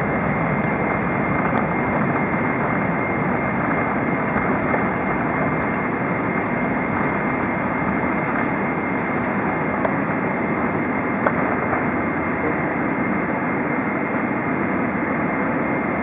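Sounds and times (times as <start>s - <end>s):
jet engine and rushing airflow: 0.0s - 16.0s.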